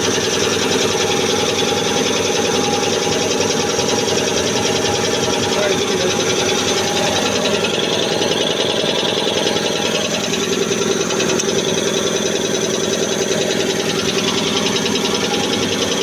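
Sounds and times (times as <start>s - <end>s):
air compressor pulsing: 0.0s - 16.0s.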